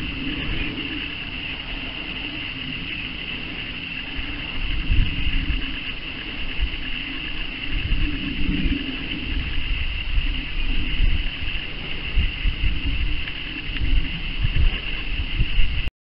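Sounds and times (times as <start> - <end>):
steady high hiss: 0.0 - 15.9
wind rumbling on microphone: 0.0 - 15.9.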